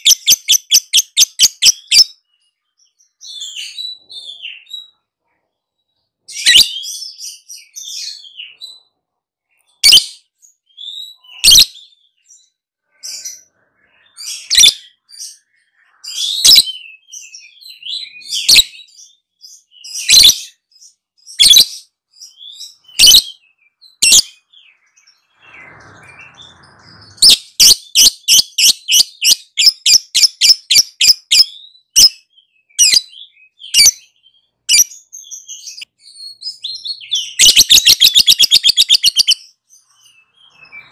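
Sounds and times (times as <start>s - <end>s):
lovebird chirping: 0.0s - 5.0s, 6.3s - 8.9s, 9.6s - 40.9s.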